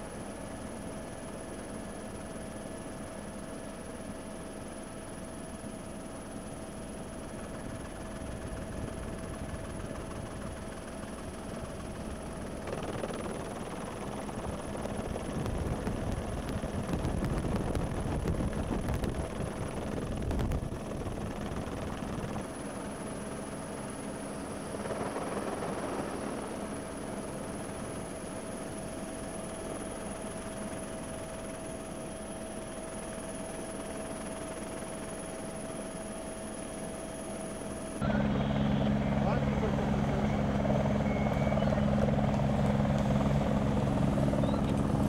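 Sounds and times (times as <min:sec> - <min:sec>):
helicopter droning with whine: 0:00.0 - 0:45.0.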